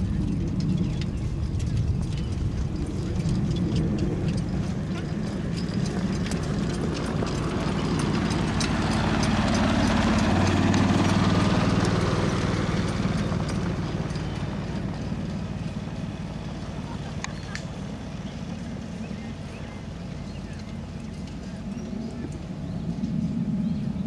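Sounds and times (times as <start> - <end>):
carriage rumble: 0.0 - 24.0
low hum: 0.0 - 24.0
pony hoofbeats trotting on grass: 0.0 - 24.0.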